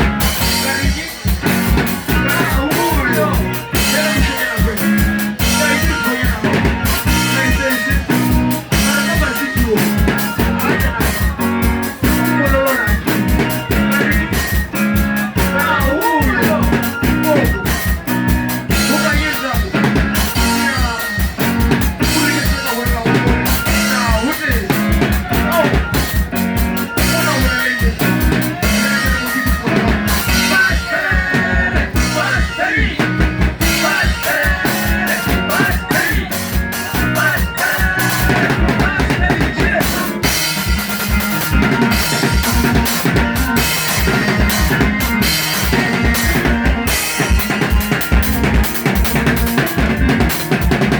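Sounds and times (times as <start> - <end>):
band music: 0.0 - 50.9
steady drum beat: 0.0 - 50.9.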